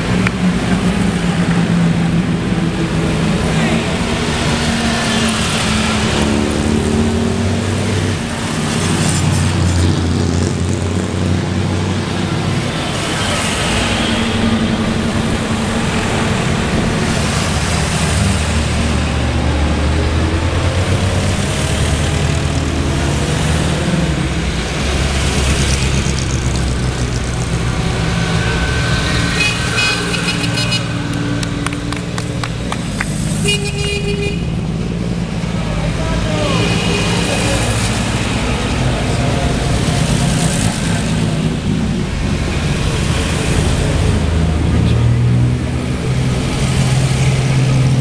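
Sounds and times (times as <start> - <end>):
car engines driving past: 0.0 - 48.0.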